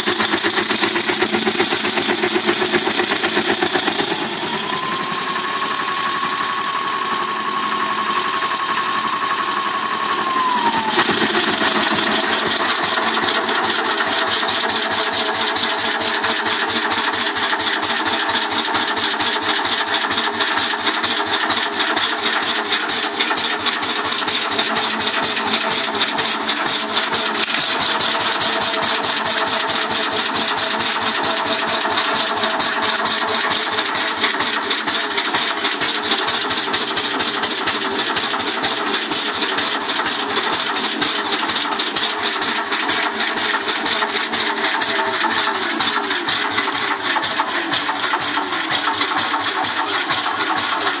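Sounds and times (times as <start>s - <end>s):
single-cylinder engine running: 0.0s - 51.0s.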